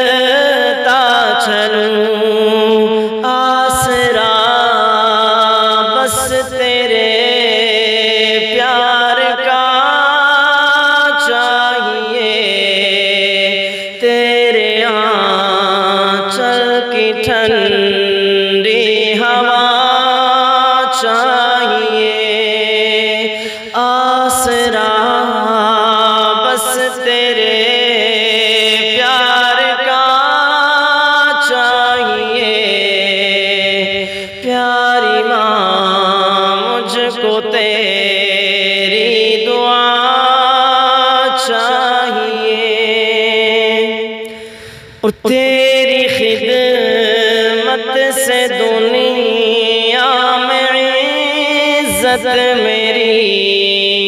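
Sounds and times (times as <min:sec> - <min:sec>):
man singing: 0:00.0 - 0:54.0.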